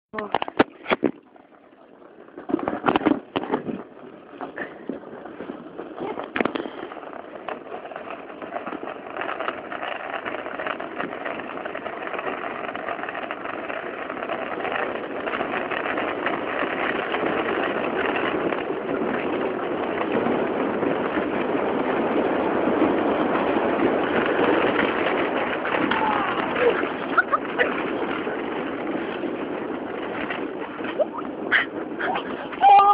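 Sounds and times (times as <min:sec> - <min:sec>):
small wheels rolling on asphalt: 0:00.2 - 0:32.9.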